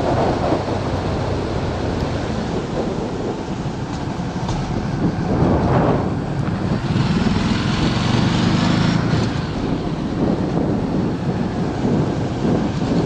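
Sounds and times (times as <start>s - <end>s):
wind rush on microphone: 0.0s - 13.0s
motorcycle engine running: 0.1s - 13.0s.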